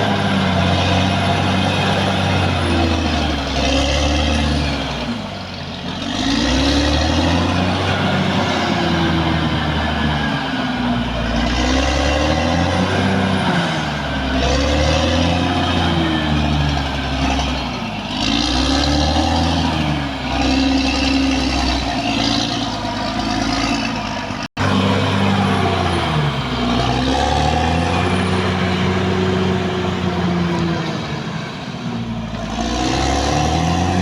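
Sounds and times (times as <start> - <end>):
bulldozer diesel engine under load: 0.0 - 34.0.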